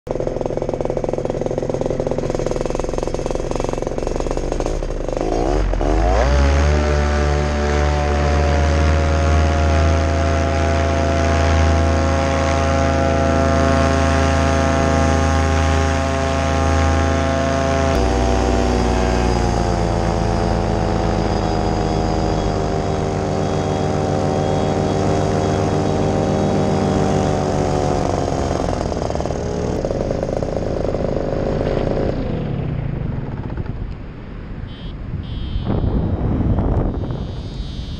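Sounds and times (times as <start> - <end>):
paramotor engine droning: 0.1 - 37.9.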